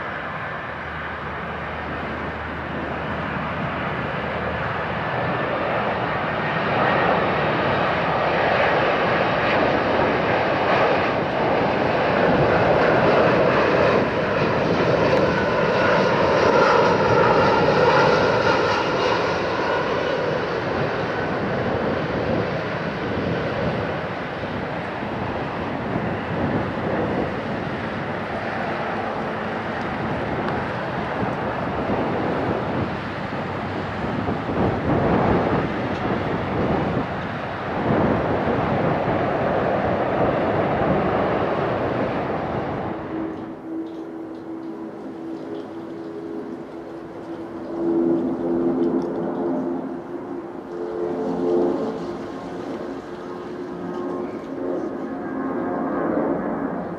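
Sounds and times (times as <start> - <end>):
jet airliner whining: 0.0 - 56.9.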